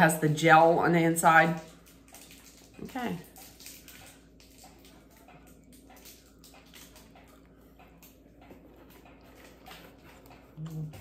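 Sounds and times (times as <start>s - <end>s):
low room hum: 0.0s - 11.0s
chewing and mouth clicks: 1.6s - 11.0s.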